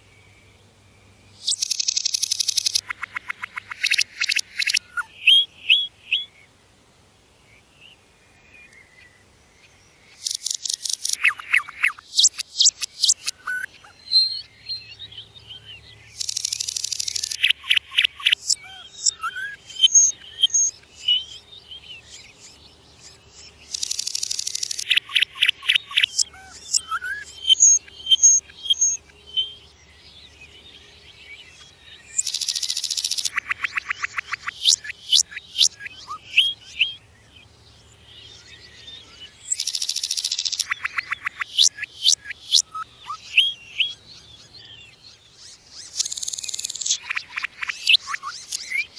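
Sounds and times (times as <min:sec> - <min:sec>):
nightingale singing: 0:00.0 - 0:06.4, 0:07.5 - 0:48.9.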